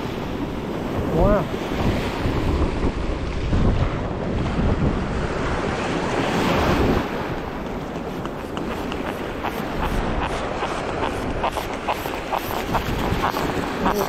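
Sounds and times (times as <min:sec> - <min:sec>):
surf washing: 0:00.0 - 0:14.0
wind buffeting microphone: 0:00.0 - 0:14.0.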